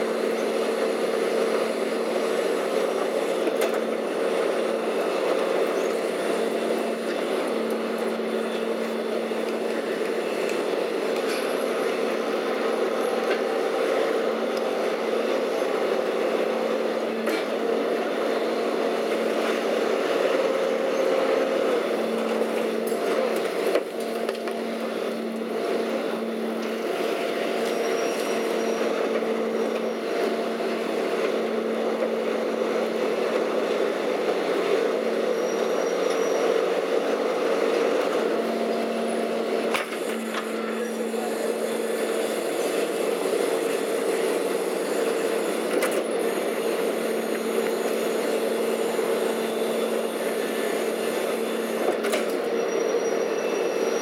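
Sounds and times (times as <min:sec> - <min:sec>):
garbage truck running: 0:00.0 - 0:54.0
hydraulic whine: 0:00.0 - 0:54.0.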